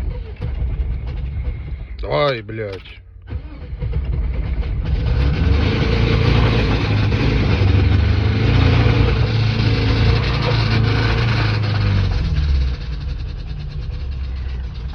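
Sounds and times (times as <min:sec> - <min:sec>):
car engine starting and running: 0:00.0 - 0:14.9.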